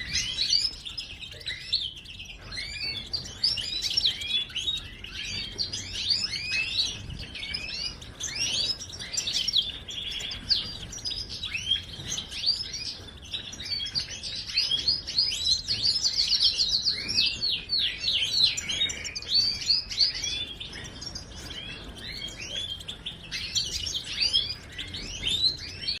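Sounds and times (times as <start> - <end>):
goldfinch twittering song: 0.0 - 26.0.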